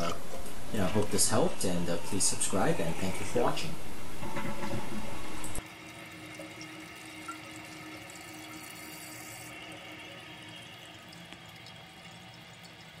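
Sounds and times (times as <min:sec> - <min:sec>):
toilet tank refilling: 0:00.8 - 0:03.6, 0:04.2 - 0:13.0.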